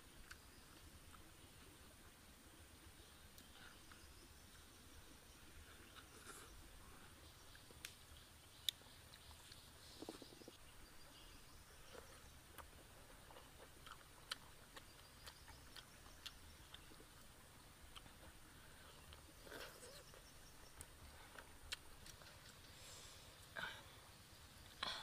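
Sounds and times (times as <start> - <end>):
faint chewing crunches: 0.1 - 2.0, 3.0 - 25.0.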